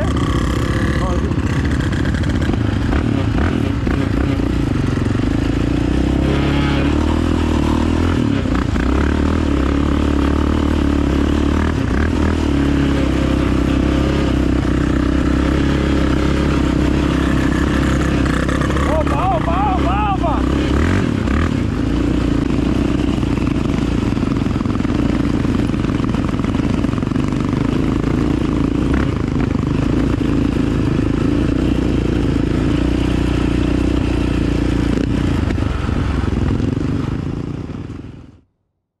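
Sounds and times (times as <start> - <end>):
dirt bike engine running: 0.0 - 38.4.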